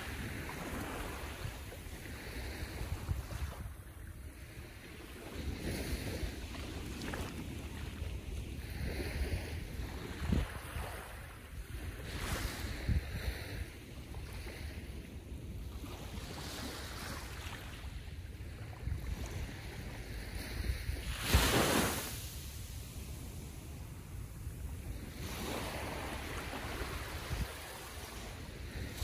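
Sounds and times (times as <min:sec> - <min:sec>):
small waves lapping on beach: 0:00.0 - 0:29.0
wind rumble on microphone: 0:00.0 - 0:29.0.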